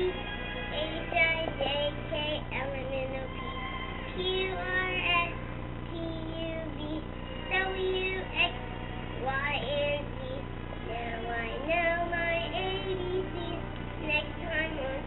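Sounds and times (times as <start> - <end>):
child singing: 0.0 - 3.5, 4.1 - 8.6, 9.2 - 15.0.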